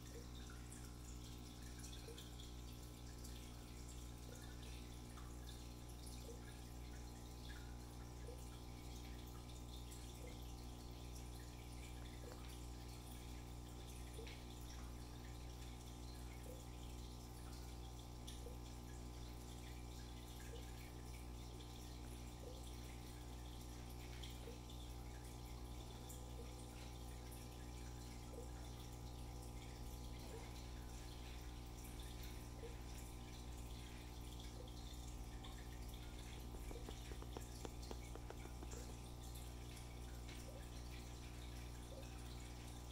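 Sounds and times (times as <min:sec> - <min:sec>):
aquarium filter humming: 0:00.0 - 0:42.9
faint water drips: 0:00.0 - 0:42.9.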